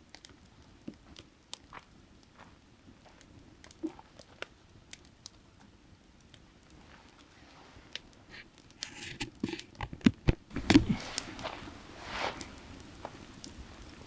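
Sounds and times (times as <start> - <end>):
firewood crackling and popping: 0.0 - 14.0.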